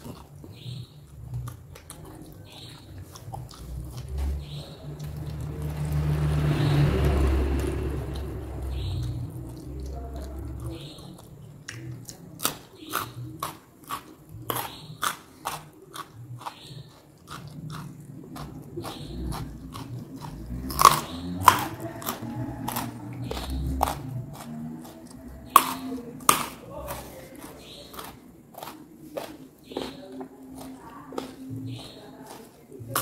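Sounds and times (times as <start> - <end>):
person chewing crunchy food: 0.0 - 33.0.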